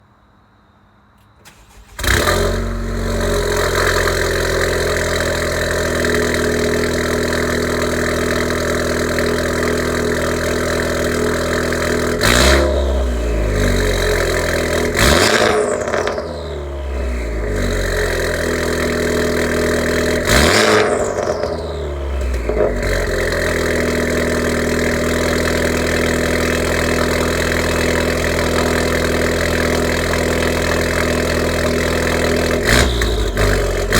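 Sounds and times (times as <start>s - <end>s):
car engine starting and revving: 1.4s - 33.9s.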